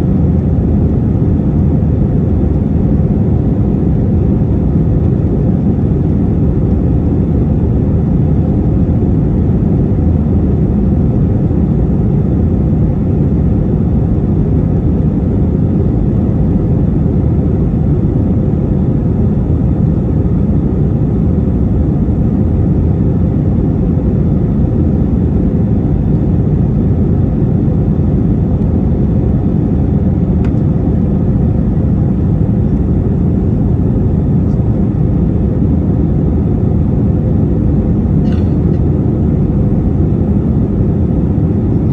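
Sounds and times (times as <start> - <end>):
jet engine and airflow rumble: 0.0 - 41.9.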